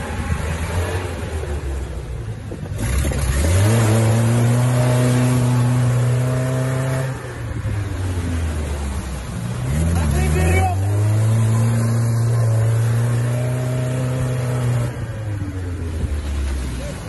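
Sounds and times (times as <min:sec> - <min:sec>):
off-road vehicle engine revving: 0:00.0 - 0:17.0
water and mud splashing: 0:00.0 - 0:17.0.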